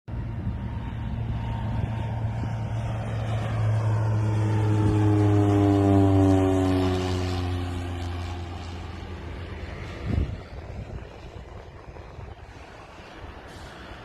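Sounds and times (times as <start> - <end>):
airliner engine drone: 0.1 - 14.0
engine whine falling in pitch: 0.2 - 14.0.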